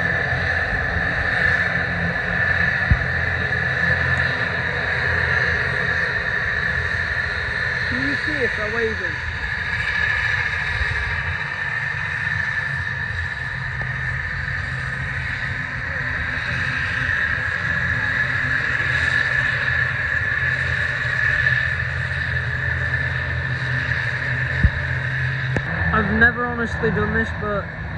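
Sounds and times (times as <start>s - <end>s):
high-pitched engine whine: 0.0s - 27.9s
propeller drone: 0.0s - 27.9s.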